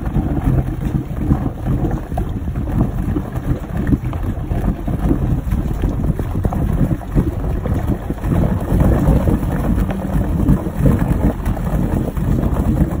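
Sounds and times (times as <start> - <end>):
boat engine low rumble: 0.0 - 13.0
propeller wash churning: 0.0 - 13.0.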